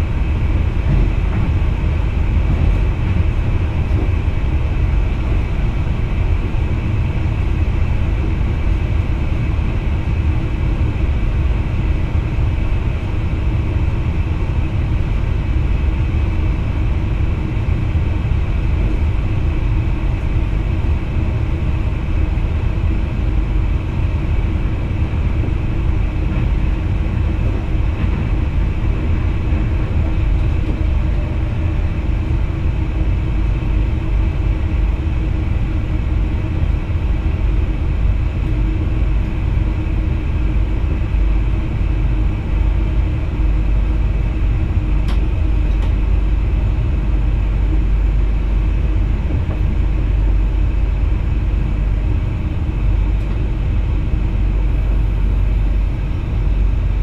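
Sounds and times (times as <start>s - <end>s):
train cab low rumble: 0.0s - 57.0s.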